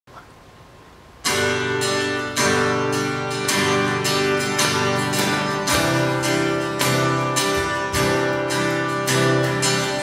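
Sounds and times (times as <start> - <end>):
acoustic guitar strumming: 1.2 - 10.0.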